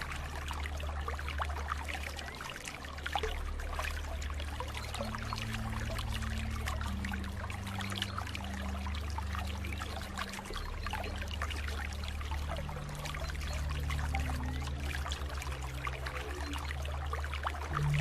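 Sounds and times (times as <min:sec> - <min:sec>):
low steady hum: 0:00.0 - 0:18.0
water trickling and bubbling: 0:00.0 - 0:18.0.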